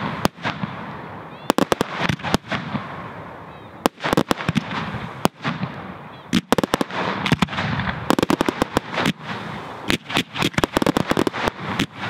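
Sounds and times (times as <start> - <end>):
fireworks bangs: 0.0 - 12.0
fireworks hiss: 0.0 - 12.0.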